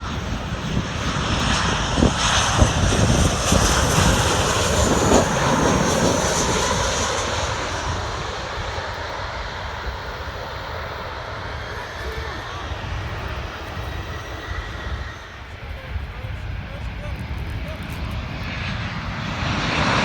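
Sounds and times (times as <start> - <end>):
airplane engine roar: 0.0 - 20.0.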